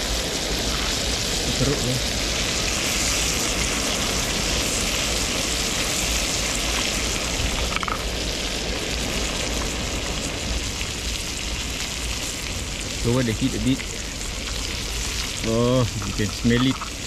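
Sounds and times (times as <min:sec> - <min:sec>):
fish frying in butter: 0:00.0 - 0:17.0.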